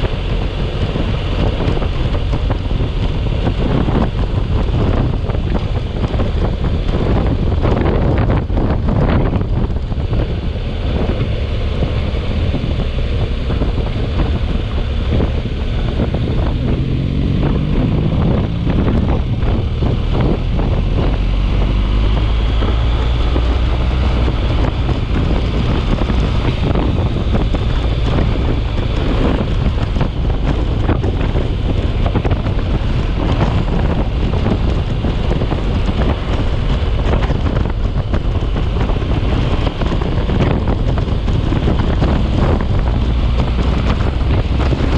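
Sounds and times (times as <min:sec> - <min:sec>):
storm wind buffeting microphone: 0:00.0 - 0:44.9.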